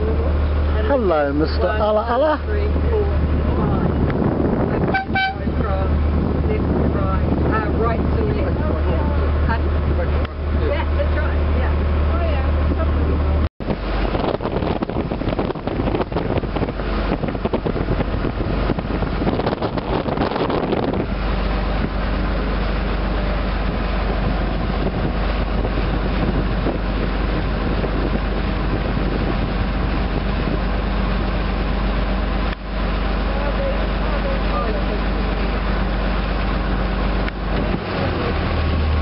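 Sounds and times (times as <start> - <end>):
boat engine droning: 0.0 - 39.0
wind buffeting microphone: 0.0 - 39.0.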